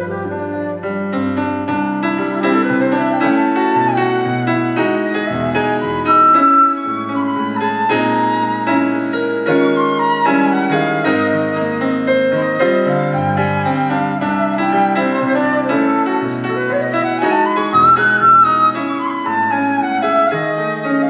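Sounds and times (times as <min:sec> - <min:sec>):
flute melody: 0:00.0 - 0:21.0
piano chords: 0:00.0 - 0:21.0.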